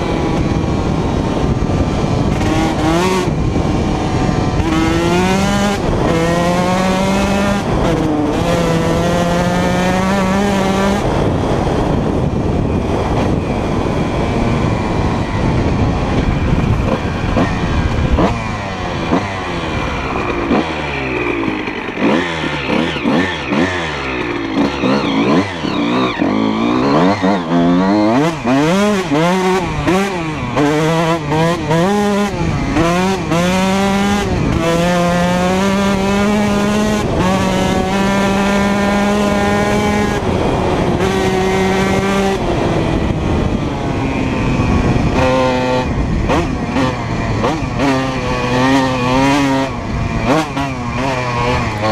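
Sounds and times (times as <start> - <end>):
two-stroke motorcycle engine revving: 0.0 - 51.9.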